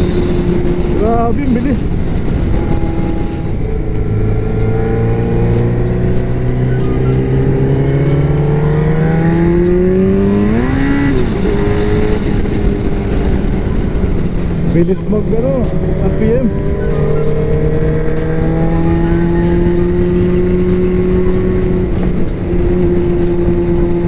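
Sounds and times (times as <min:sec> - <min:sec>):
motorcycle engine accelerating: 0:00.0 - 0:24.0
wind noise: 0:00.0 - 0:24.0.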